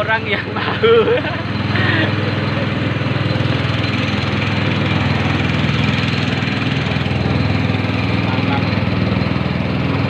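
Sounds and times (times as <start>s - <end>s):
boat engine chugging: 0.0s - 10.0s.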